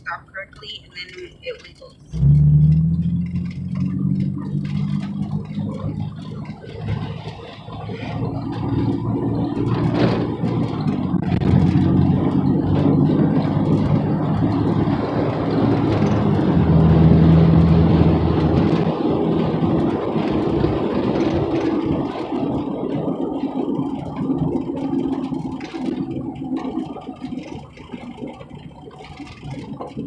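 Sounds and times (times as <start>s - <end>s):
road noise: 0.0s - 30.0s
truck engine hum: 0.0s - 30.0s.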